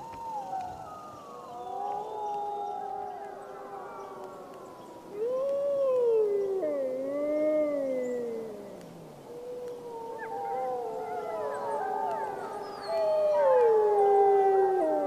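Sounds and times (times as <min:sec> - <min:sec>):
wolves howling: 0:00.0 - 0:15.0.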